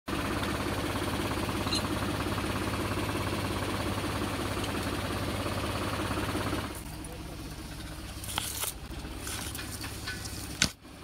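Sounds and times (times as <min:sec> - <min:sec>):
tractor engine: 0:00.1 - 0:11.0.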